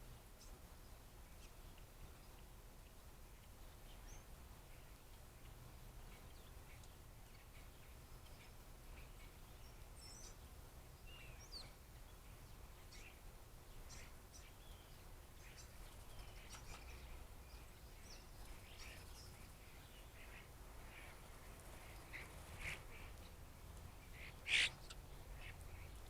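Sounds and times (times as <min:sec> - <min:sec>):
birds chirping: 0:00.4 - 0:26.0.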